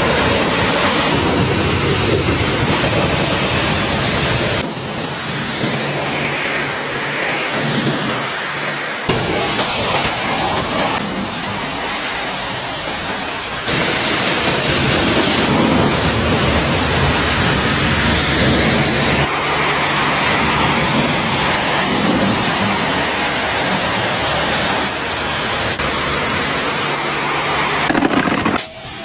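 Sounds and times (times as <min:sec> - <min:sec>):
heavy rain and wind rushing: 0:00.0 - 0:29.0.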